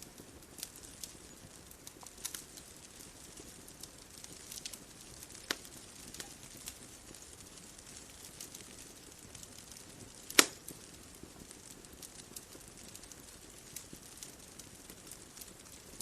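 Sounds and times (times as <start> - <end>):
fire soft hiss: 0.0 - 16.0
wood fire popping and snapping: 0.0 - 16.0.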